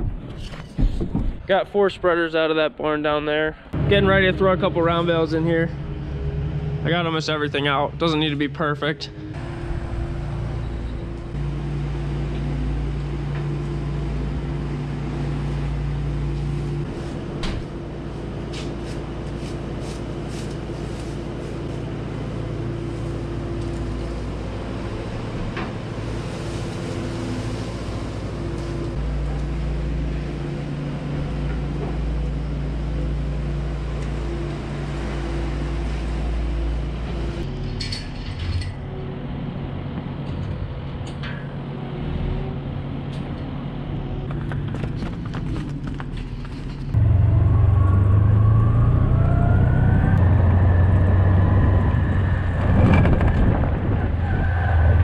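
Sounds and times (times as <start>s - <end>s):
diesel engine running: 3.6s - 55.0s.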